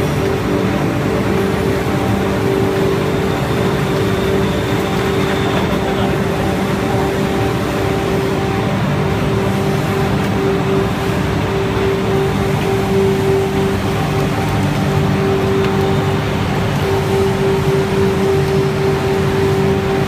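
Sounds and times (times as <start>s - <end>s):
fiber cleaning machine running: 0.0s - 20.0s.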